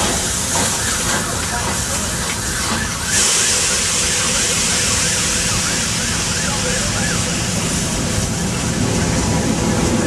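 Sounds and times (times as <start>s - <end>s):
steam hissing: 0.0s - 10.0s
train wheels rumbling and clattering: 0.0s - 10.0s.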